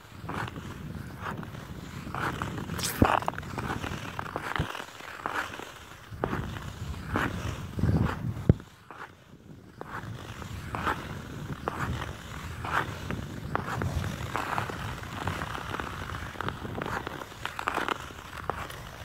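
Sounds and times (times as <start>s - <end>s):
ice skate blades scraping ice: 0.0s - 19.0s
ice crackling: 0.2s - 19.0s.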